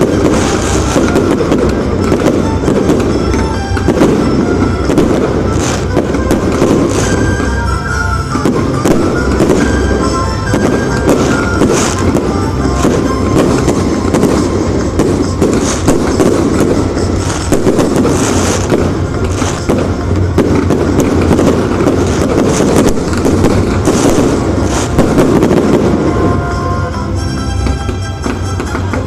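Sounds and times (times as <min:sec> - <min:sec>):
fireworks banging and crackling: 0:00.0 - 0:29.0.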